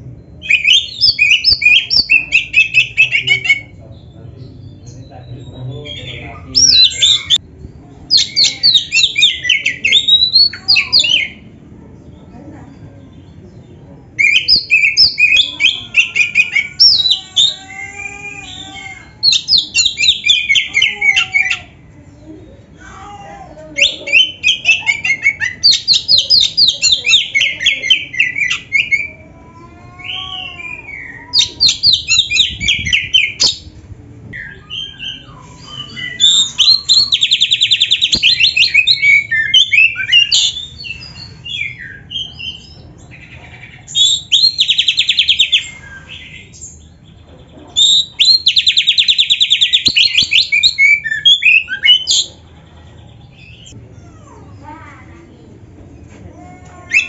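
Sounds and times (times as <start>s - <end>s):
songbird singing trills and whistles: 0.1s - 3.8s, 4.4s - 11.6s, 13.2s - 17.6s, 19.1s - 22.6s, 23.8s - 29.3s, 30.0s - 53.8s.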